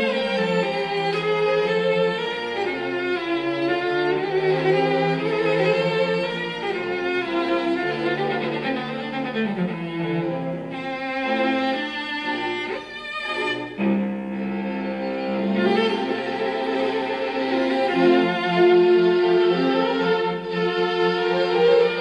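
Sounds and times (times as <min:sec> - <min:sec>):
slow bowed string music: 0:00.0 - 0:22.0.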